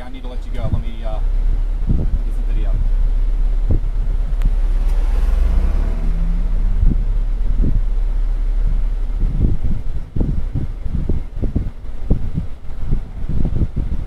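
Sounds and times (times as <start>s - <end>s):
irregular thumps: 0.0s - 14.0s
wind buffeting microphone: 0.0s - 14.0s.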